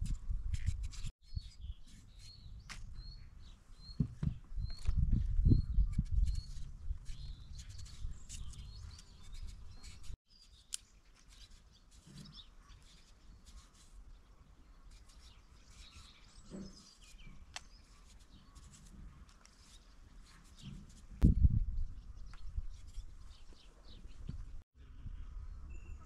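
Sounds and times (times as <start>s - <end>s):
small birds chirping: 0.9s - 24.6s.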